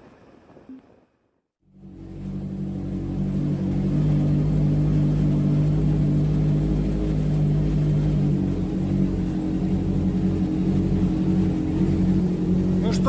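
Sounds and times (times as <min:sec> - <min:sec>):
motorcycle engine cruising: 0:01.7 - 0:13.0.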